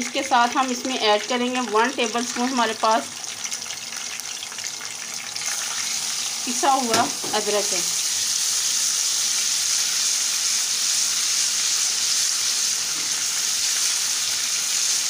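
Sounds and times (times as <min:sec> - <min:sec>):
spices sizzling in hot fat: 0:00.0 - 0:15.0.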